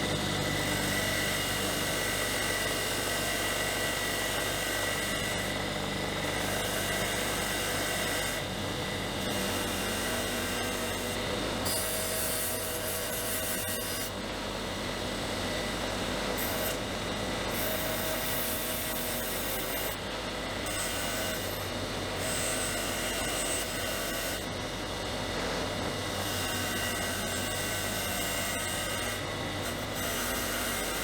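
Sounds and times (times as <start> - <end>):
electric power tool grinding metal: 0.0 - 14.3, 16.2 - 31.0.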